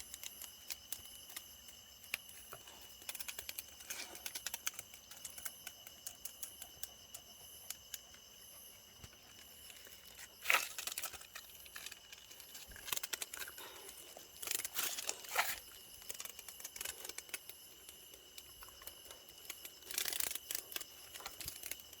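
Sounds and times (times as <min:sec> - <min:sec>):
cicada raspy buzzes: 0:00.0 - 0:22.0.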